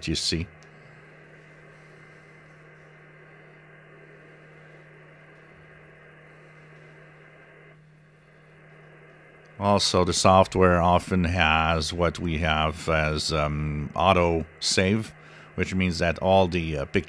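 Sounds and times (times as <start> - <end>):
low steady hum: 0.0 - 17.0
radio receiver hiss: 0.0 - 17.0.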